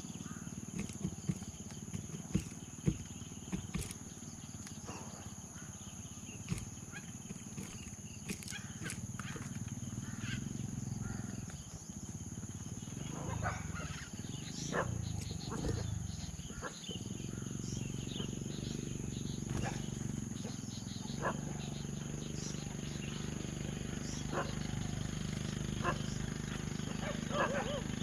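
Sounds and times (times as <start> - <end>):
dove cooing: 0.0 - 5.3, 6.3 - 11.8, 12.4 - 28.0
high-pitched insect drone: 0.0 - 28.0.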